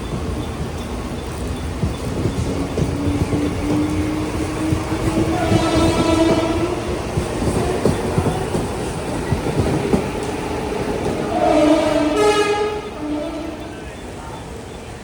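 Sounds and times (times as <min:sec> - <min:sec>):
train wheels knocking on rail joints: 0:00.0 - 0:12.7.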